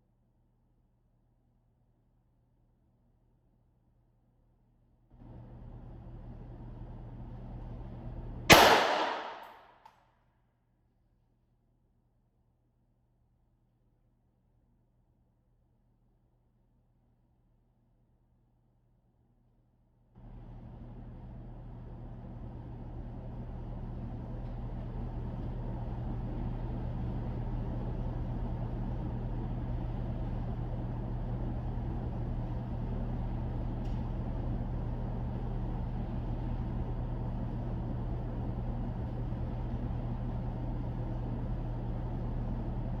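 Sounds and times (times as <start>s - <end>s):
low mechanical hum and rumble: 0.0s - 9.9s, 13.1s - 43.0s.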